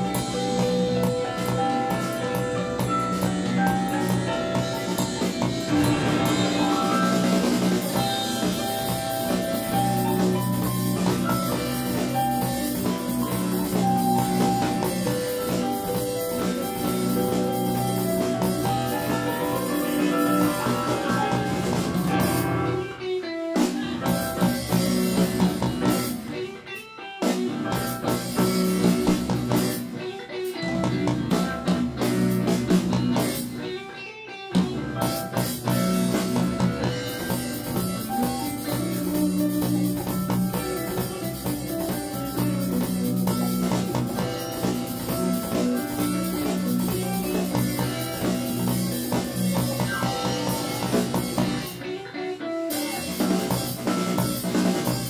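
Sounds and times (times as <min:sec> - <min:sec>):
live band playing instrumental: 0:00.0 - 0:55.0.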